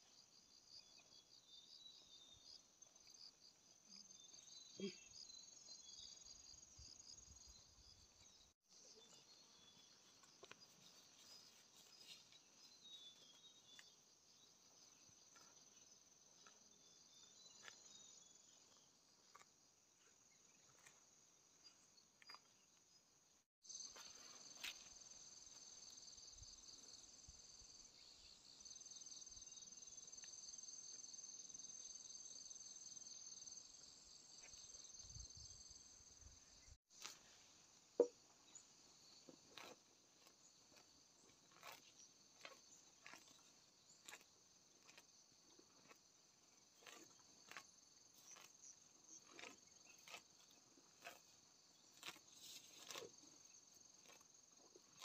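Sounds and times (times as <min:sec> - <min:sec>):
insects chirring: 0:00.1 - 0:55.0.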